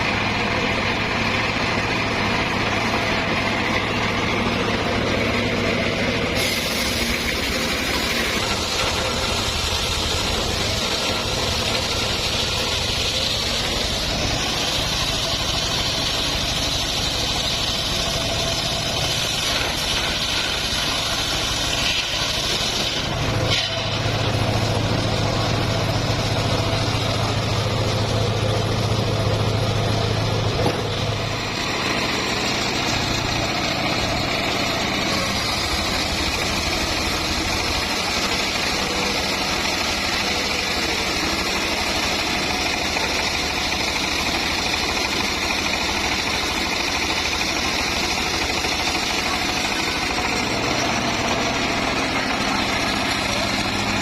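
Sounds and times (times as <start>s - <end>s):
sawmill engine humming: 0.0s - 54.0s.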